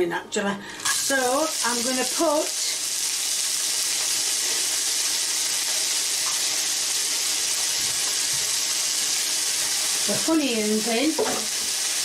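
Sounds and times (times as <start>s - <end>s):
onions sizzling in hot oil: 0.8s - 12.0s.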